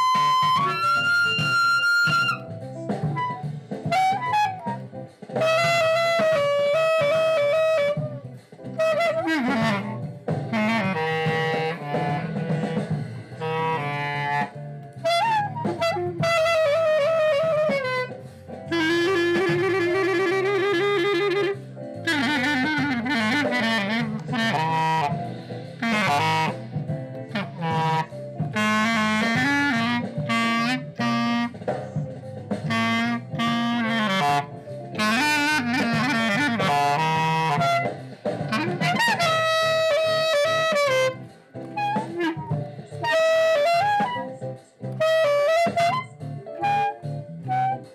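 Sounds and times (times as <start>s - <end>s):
clarinet melodic phrases: 0.0s - 47.9s.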